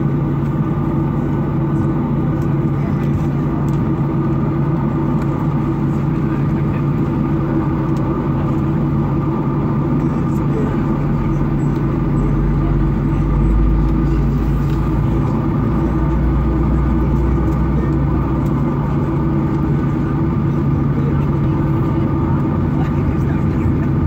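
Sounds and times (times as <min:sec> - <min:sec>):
airliner cabin engine hum: 0:00.0 - 0:24.0
deep low rumble: 0:00.0 - 0:24.0.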